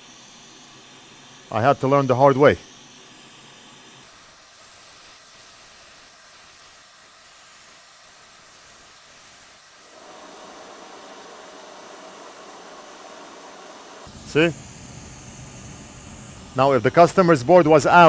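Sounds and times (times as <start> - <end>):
hot air station hissing: 0.0 - 18.0.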